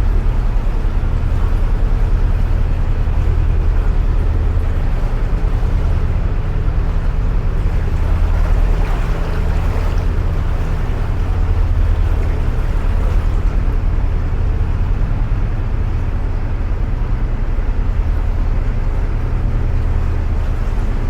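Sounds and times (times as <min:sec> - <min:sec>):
diesel boat engine throbbing: 0:00.0 - 0:21.0.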